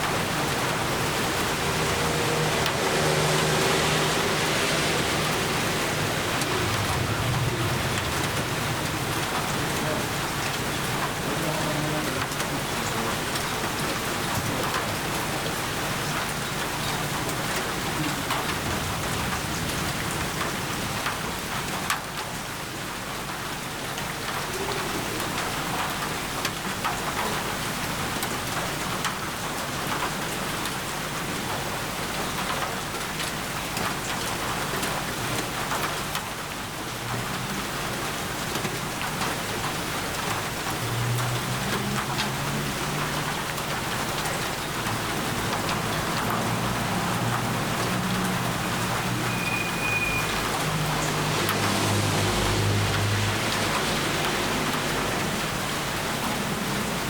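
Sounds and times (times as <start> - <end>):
rain hissing on surfaces: 0.0 - 57.0.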